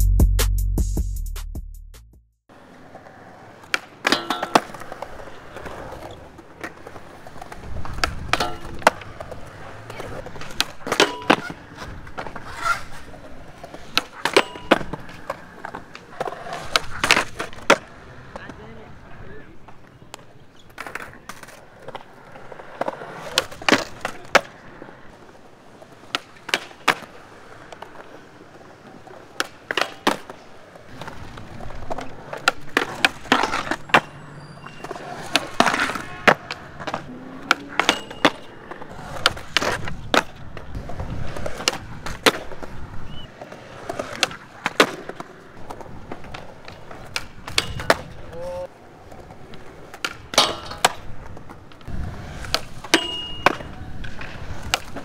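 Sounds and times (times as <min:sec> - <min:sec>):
skateboard grinding on concrete ledge: 0:02.5 - 0:18.4, 0:20.6 - 0:55.0
skateboard wheels rolling on concrete: 0:02.5 - 0:55.0
skateboard clacks popping and landing: 0:02.6 - 0:18.6, 0:19.6 - 0:25.0, 0:25.6 - 0:55.0.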